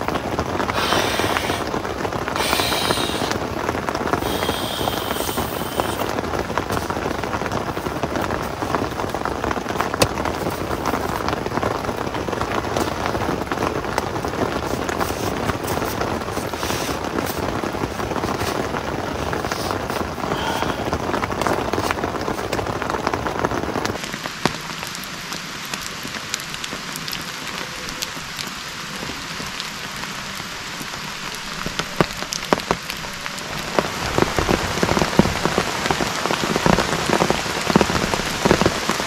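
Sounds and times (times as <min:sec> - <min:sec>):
heavy rain on a tent: 0:00.0 - 0:39.0.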